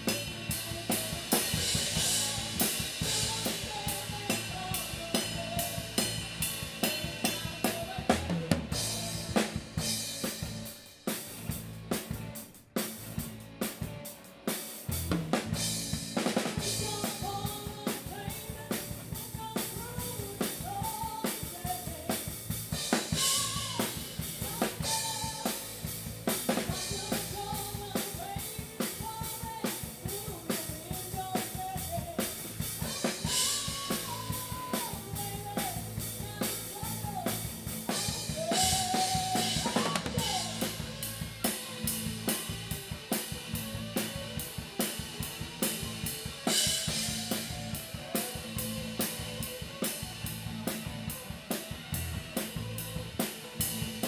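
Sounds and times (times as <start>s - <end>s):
drum kit beat: 0.0s - 54.0s
rock band playing: 0.0s - 54.0s.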